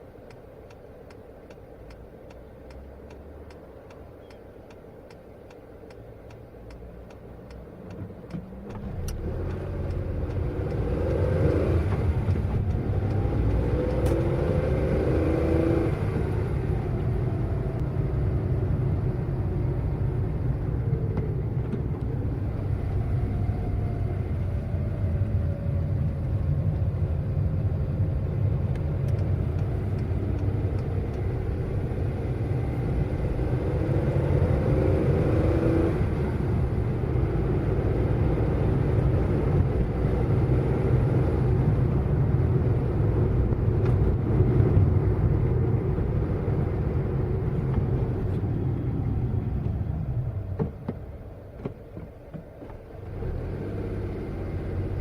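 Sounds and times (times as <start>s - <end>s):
road rumble: 0.0s - 55.0s
car engine accelerating: 6.0s - 55.0s.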